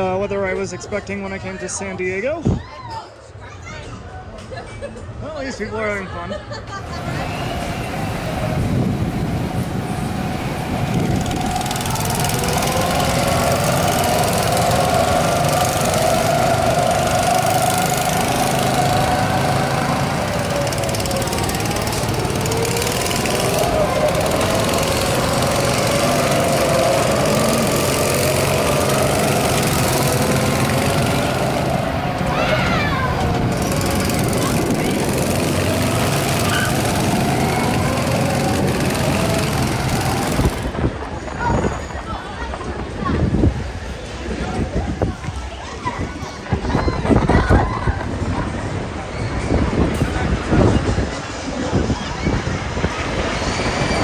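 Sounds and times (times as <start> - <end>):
go-kart engines droning: 6.6 - 54.0.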